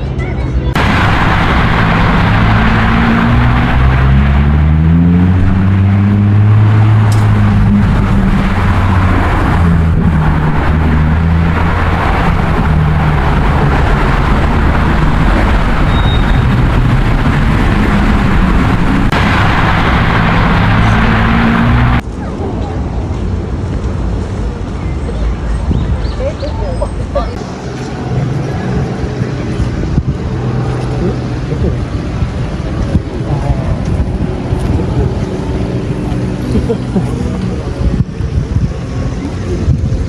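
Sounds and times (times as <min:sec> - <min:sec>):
vehicle engine running: 0:00.7 - 0:22.3, 0:27.3 - 0:40.0.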